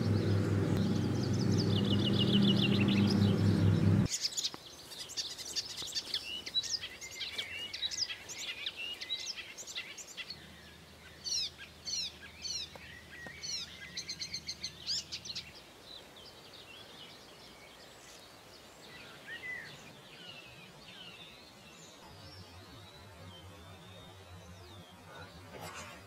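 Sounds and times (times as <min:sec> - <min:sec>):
small birds singing and chirping: 0:00.0 - 0:26.0.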